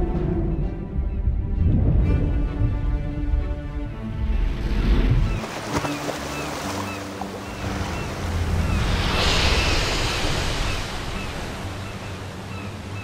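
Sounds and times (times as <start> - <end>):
ocean waves: 2.0 - 13.0.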